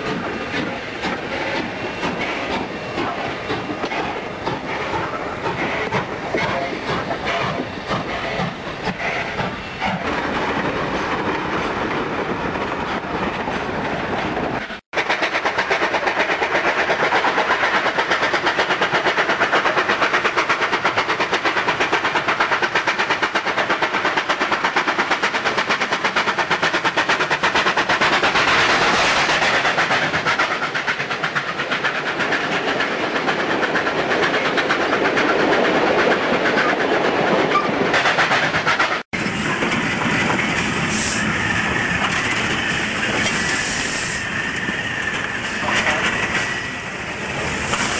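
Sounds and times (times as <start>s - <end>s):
steam locomotive chuffing: 0.0s - 13.2s, 14.4s - 47.9s.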